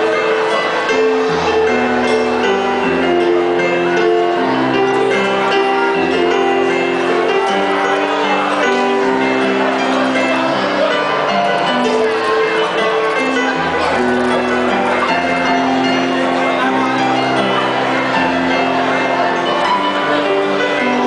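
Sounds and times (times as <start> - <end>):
slow piano melody with chords: 0.0 - 21.0.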